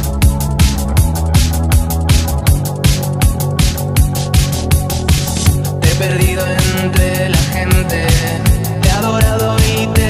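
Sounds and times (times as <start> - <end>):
deep sustained bass: 0.0 - 10.0
electronic dance music: 0.0 - 10.0.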